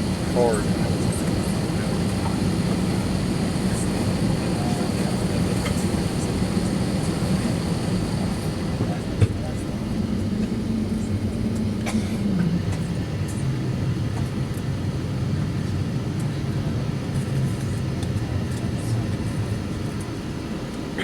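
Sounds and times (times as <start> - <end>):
low cabin drone: 0.0 - 21.0.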